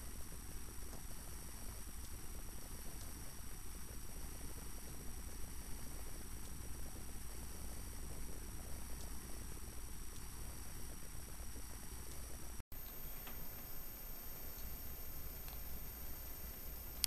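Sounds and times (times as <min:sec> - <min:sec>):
electrical mains hum: 0:00.0 - 0:17.0
faint high whines: 0:00.0 - 0:17.0
tape hiss: 0:00.0 - 0:17.0.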